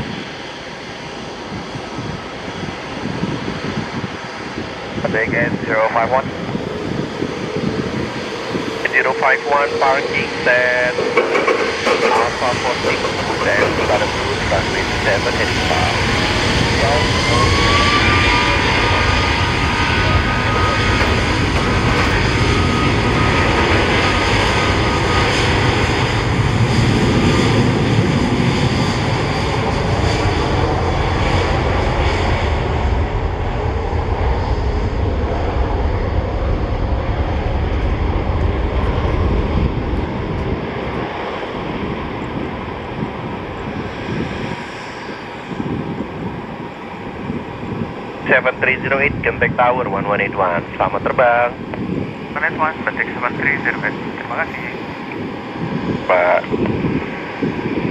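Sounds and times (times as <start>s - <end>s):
jet engines rushing and whining: 0.0s - 57.9s.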